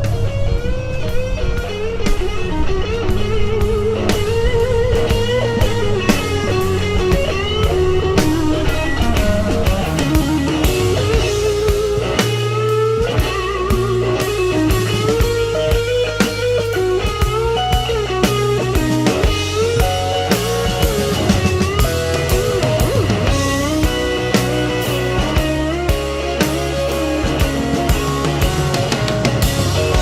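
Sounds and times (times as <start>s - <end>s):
blues-rock music: 0.0s - 30.0s.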